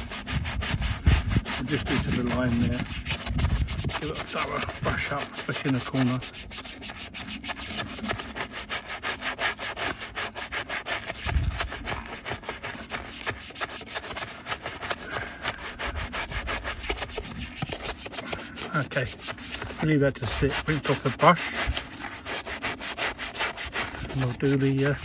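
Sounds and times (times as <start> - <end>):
brush scrubbing wheel: 0.0 - 25.0.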